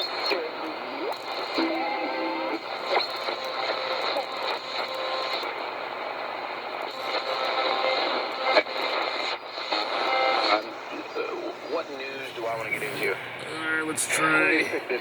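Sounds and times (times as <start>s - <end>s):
interference clicks: 0.0s - 15.0s
radio static and hiss: 0.0s - 15.0s.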